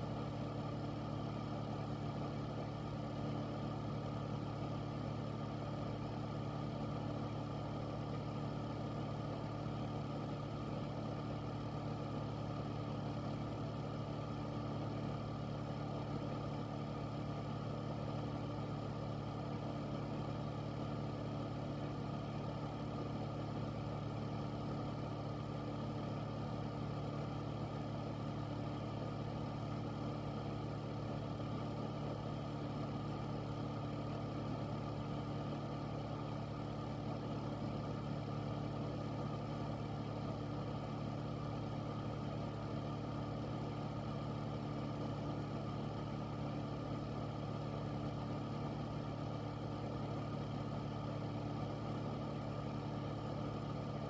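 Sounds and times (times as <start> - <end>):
air filter fan running: 0.0 - 54.0.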